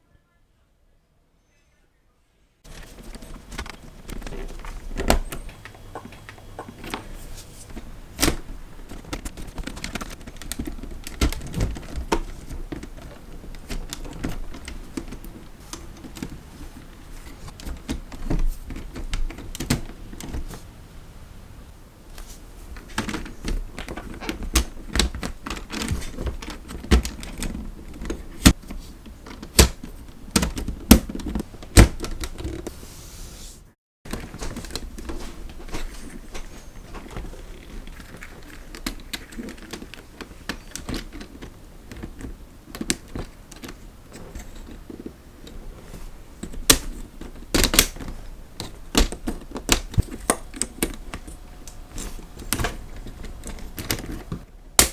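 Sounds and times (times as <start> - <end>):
plastic parts clicking: 2.7 - 20.5, 22.8 - 32.7, 34.1 - 54.9.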